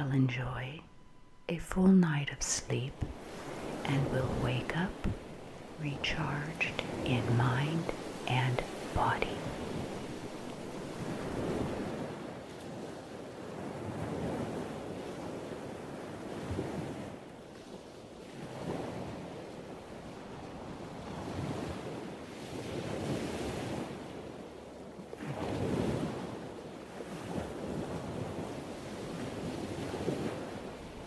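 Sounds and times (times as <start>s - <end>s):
ocean waves breaking: 0.0s - 31.0s.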